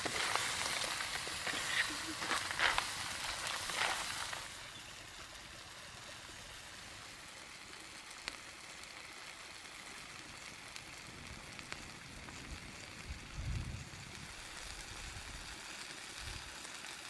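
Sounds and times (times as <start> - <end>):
fire crackles: 0.0 - 17.0
food cooking in a wok: 0.0 - 17.0.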